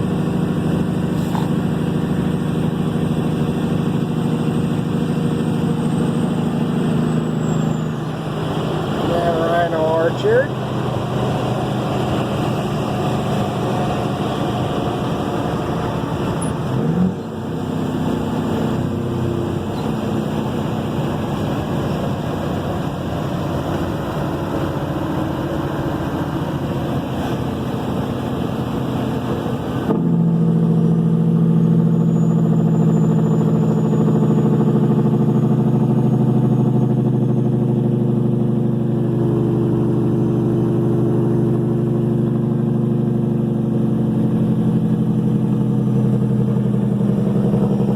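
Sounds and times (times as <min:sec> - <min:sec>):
diesel truck engine driving: 0:00.0 - 0:47.9.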